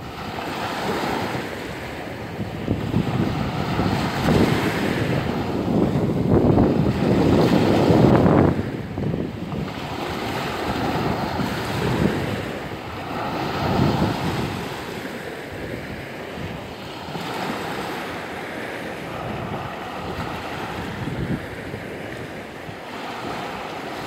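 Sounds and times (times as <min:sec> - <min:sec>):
small waves breaking on shore: 0:00.0 - 0:24.0
wind buffeting microphone: 0:00.0 - 0:24.0.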